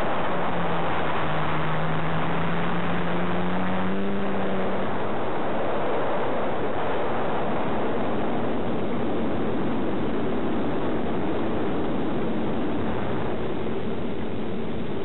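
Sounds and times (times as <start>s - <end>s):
drone propellers whirring: 0.0s - 15.0s
rushing wind: 0.0s - 15.0s.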